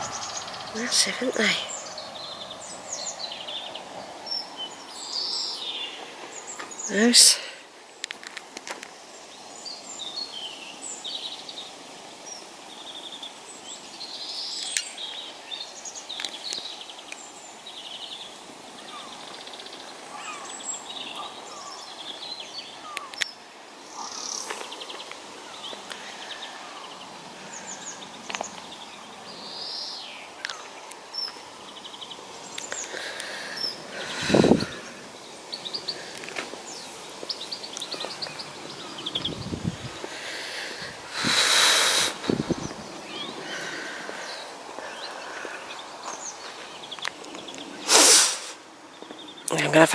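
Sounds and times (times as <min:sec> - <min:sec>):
outdoor background noise: 0:00.0 - 0:49.9
small birds chirping: 0:00.0 - 0:49.9.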